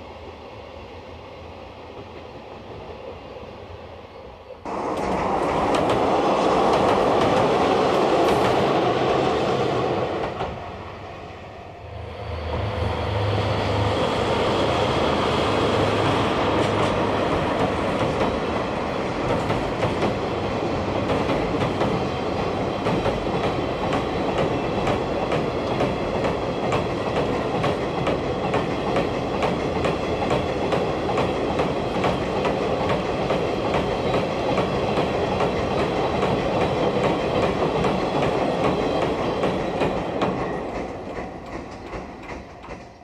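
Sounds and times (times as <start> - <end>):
freight train wagons rumbling past: 1.8 - 43.0.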